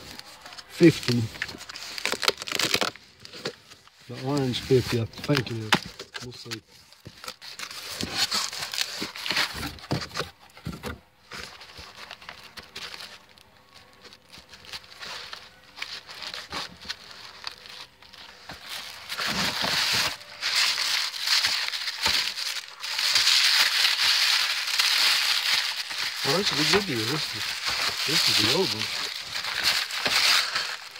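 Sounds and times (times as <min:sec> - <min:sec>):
paper packing rustling: 0:00.0 - 0:30.9.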